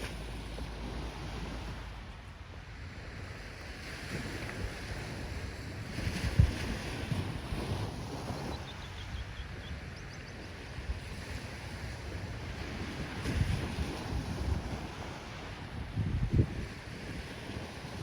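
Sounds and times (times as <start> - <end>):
ocean waves washing in: 0.0 - 18.0
wind rumbling on microphone: 0.0 - 18.0.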